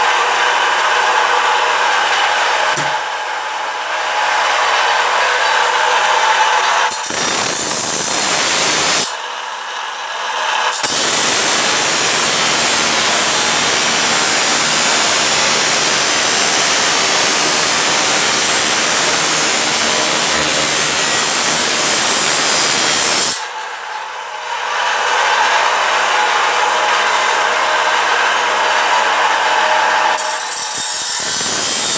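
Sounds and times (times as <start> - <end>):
power tool running: 0.0 - 31.9.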